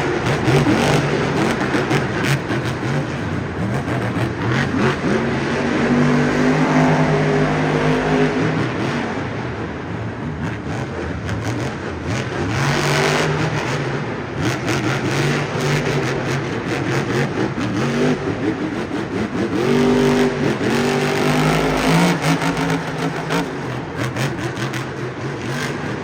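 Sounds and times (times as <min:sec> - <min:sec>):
truck engine revving: 0:00.0 - 0:09.4, 0:10.4 - 0:26.0.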